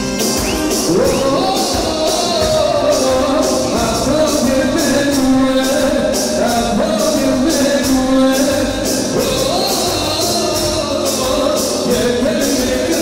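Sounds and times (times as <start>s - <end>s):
dance music with singing: 0.0s - 13.0s.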